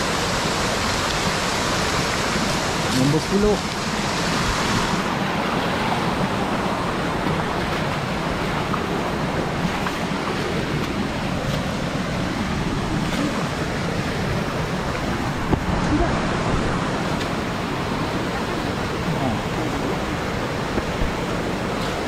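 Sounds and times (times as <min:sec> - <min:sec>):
waterfall rushing over rocks: 0:00.0 - 0:22.0.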